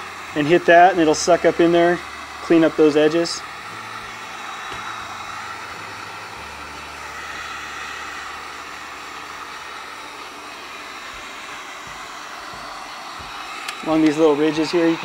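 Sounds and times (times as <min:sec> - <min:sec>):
heat gun blower hissing: 0:00.0 - 0:15.0.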